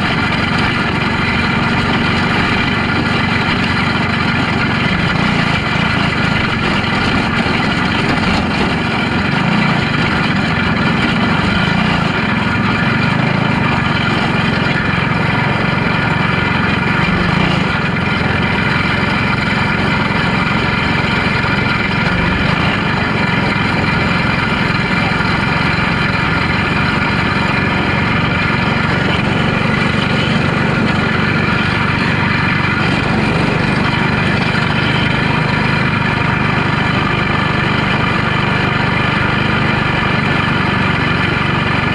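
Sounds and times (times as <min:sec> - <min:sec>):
car engine running near idle: 0:00.0 - 0:41.9.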